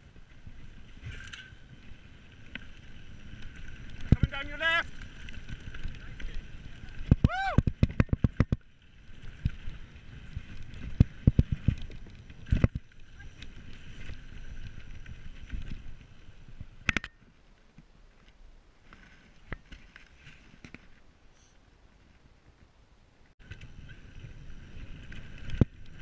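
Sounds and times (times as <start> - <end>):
bike tyres rumbling over dirt: 0.0 - 21.1, 23.4 - 26.0
bike knocking and rattling: 0.1 - 21.0, 23.4 - 26.0.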